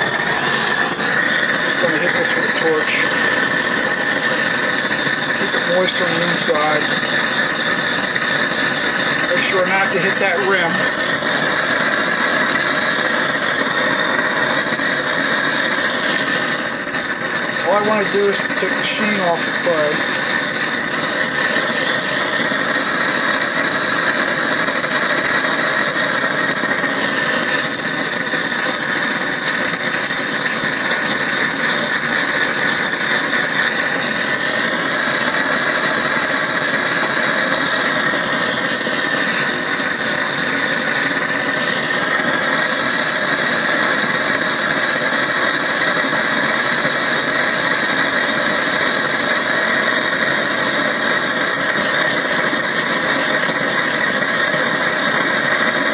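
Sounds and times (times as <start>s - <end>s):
gas torch burning: 0.0s - 55.9s.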